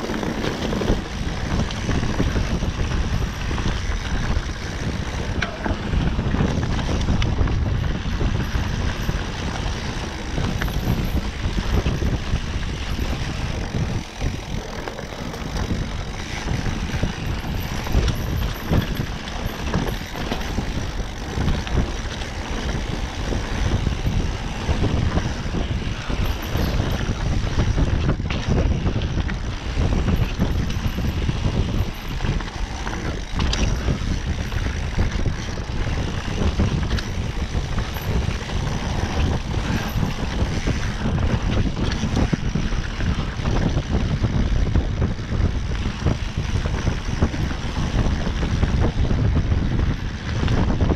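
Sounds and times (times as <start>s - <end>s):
bike rattling and knocking: 0.0s - 50.9s
bike tyres rumbling on dirt: 0.0s - 50.9s
wind buffeting microphone: 0.0s - 50.9s.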